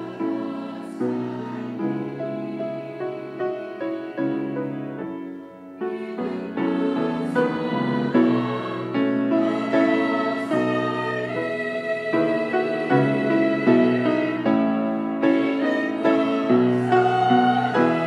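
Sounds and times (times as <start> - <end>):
choir singing a hymn: 0.0 - 18.0
piano accompaniment: 0.0 - 18.0.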